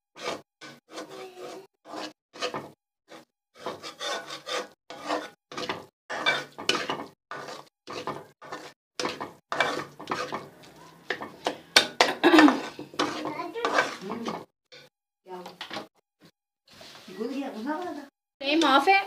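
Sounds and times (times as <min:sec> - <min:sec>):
spoon scraping a pan: 0:00.2 - 0:15.9.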